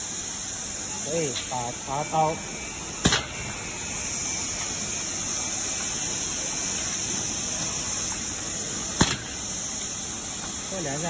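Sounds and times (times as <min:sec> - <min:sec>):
factory machinery rushing hiss: 0:00.0 - 0:11.0.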